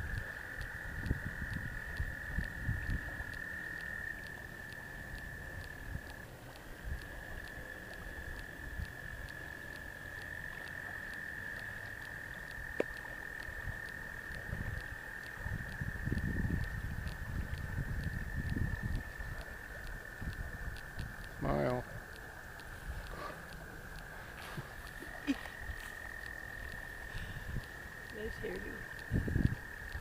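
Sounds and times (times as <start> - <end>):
tree frogs calling: 0.0 - 30.0.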